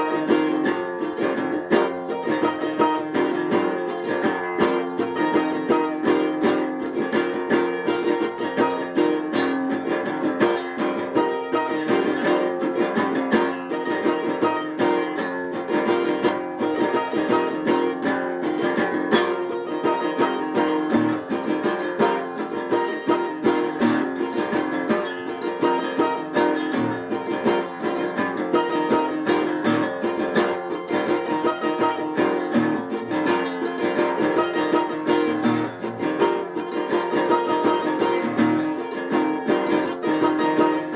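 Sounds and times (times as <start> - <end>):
plucked string instrument music: 0.0 - 40.9.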